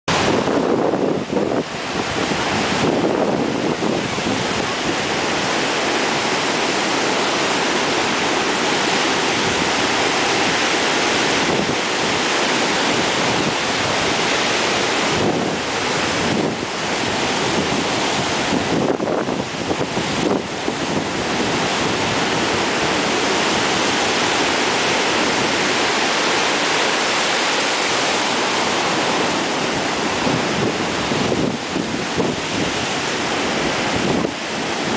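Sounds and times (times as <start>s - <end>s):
storm surf breaking: 0.1s - 34.9s
wind buffeting microphone: 0.1s - 34.9s.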